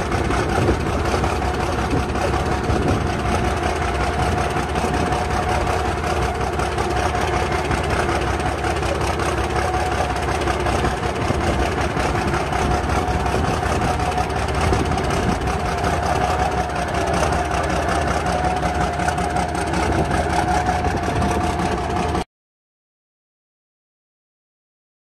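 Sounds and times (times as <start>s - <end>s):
diesel engine running: 0.0s - 22.3s.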